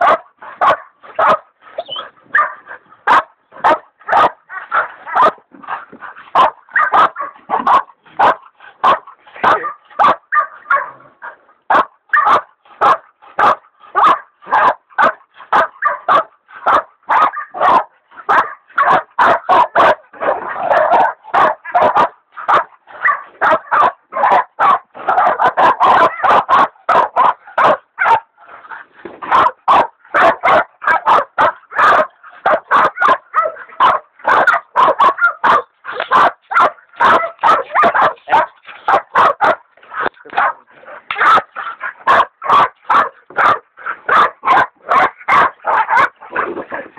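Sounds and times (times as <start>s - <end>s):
dogs barking: 0.0s - 46.9s.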